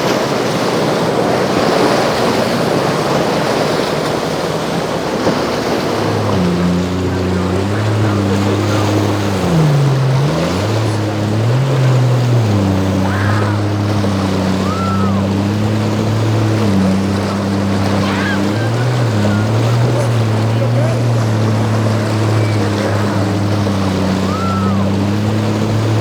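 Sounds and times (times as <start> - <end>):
motorboat engines: 0.0 - 26.0
waves washing: 0.0 - 26.0
wind: 0.0 - 26.0.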